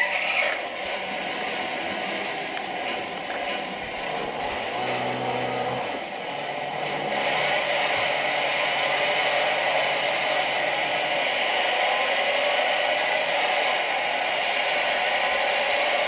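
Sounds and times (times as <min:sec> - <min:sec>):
whirring motor hiss from speaker: 0:00.0 - 0:16.0.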